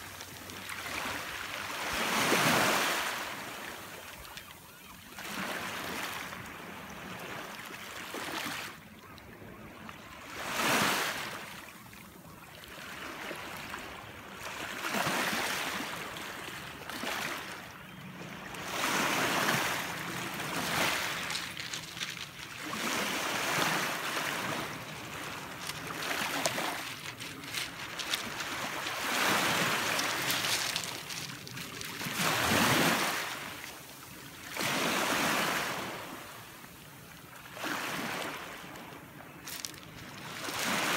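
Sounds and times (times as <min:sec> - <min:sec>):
small waves breaking: 0:00.0 - 0:40.9.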